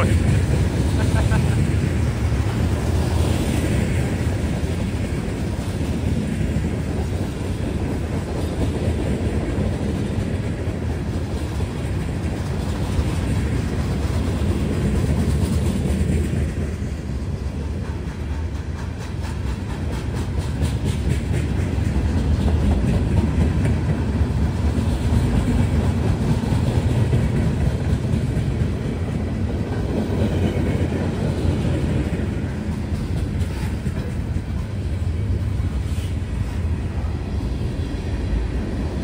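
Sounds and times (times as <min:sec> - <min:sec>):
wheels clacking over rail joints: 0:00.0 - 0:36.2
train wheels rumbling on rail: 0:00.0 - 0:39.0.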